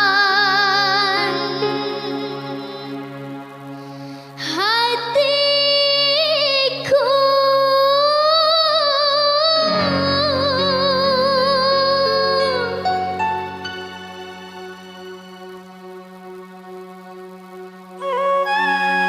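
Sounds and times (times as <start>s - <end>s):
backing music: 0.0s - 6.1s, 9.6s - 19.0s.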